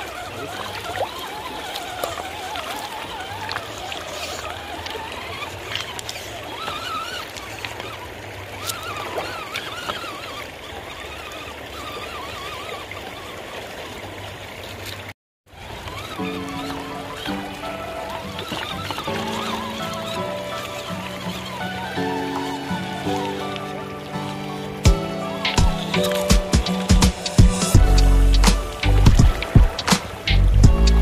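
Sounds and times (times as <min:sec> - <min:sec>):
electric motor and gears whining: 0:00.0 - 0:13.3, 0:15.6 - 0:31.0
river water running: 0:00.0 - 0:31.0.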